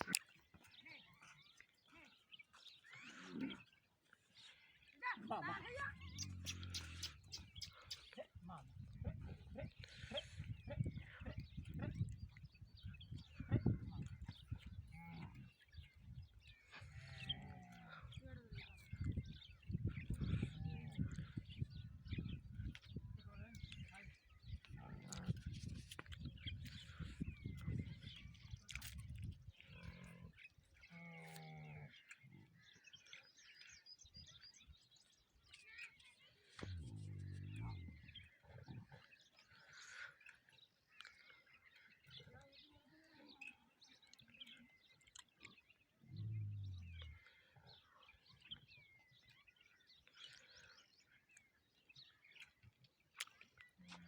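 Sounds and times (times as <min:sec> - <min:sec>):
farm animals grunting: 0:00.0 - 0:12.1, 0:12.8 - 0:22.6, 0:23.8 - 0:25.5, 0:29.5 - 0:33.7, 0:35.7 - 0:51.1, 0:53.6 - 0:54.0
birds chirping: 0:00.0 - 0:54.0.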